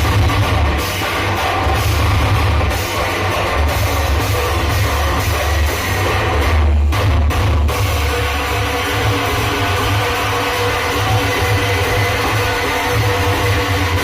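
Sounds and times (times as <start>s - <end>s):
bass-heavy music on sound system: 0.0s - 14.0s.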